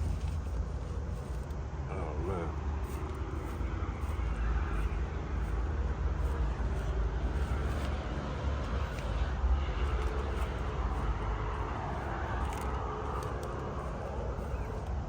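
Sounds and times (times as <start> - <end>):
distant road traffic hum: 0.0 - 15.0
steady low rumble: 0.0 - 15.0.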